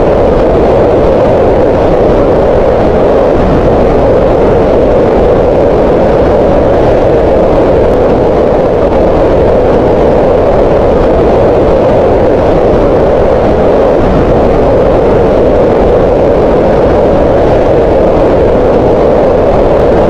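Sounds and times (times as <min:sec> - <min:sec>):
green noise: 0:00.0 - 0:20.0.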